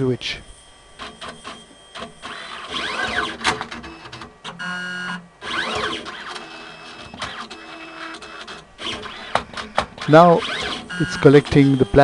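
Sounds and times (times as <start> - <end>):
buzzing tone: 0.0 - 12.0
motor whining: 0.0 - 12.0.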